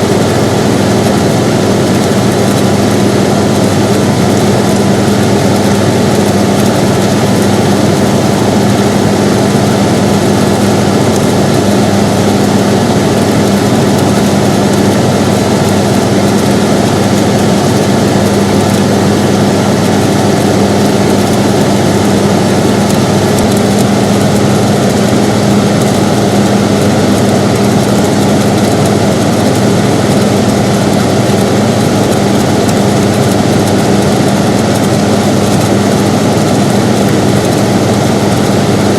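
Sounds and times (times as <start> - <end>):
air conditioner running: 0.0 - 38.9.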